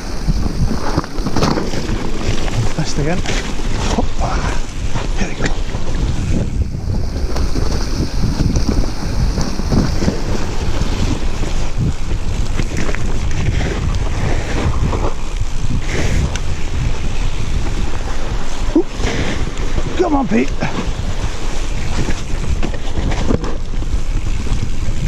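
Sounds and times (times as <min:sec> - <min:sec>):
bike knocking and rattling: 0:00.0 - 0:25.0
bike tyres rumbling on rocky trail: 0:00.0 - 0:25.0
wind buffeting the microphone: 0:00.0 - 0:25.0.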